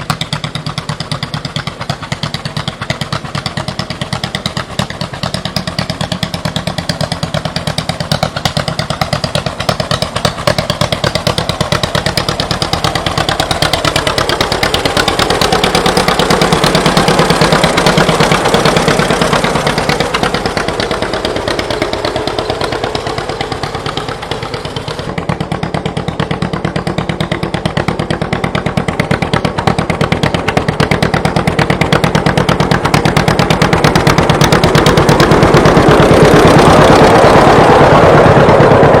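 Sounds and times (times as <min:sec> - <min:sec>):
tractor engine exhaust popping: 0:00.0 - 0:39.0.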